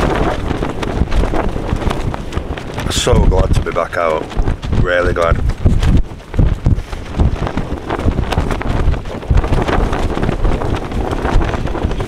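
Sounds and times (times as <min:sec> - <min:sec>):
tent fabric flapping: 0:00.0 - 0:12.0
wind buffeting microphone: 0:00.0 - 0:12.0.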